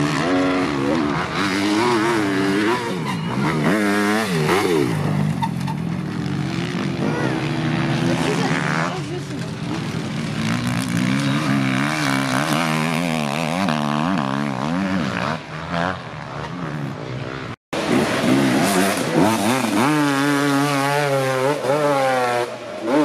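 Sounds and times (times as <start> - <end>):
motorcycle engine revving: 0.0 - 23.0
second motorcycle engine revving: 0.0 - 23.0.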